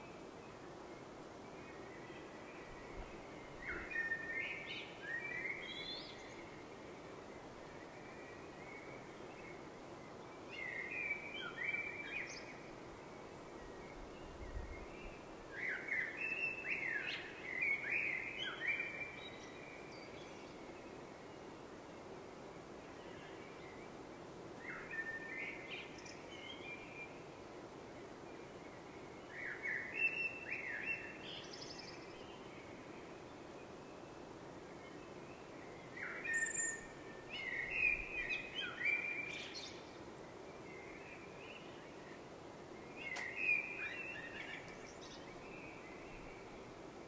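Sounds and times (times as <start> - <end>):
low background noise: 0.0 - 47.0
songbird singing: 0.0 - 47.0.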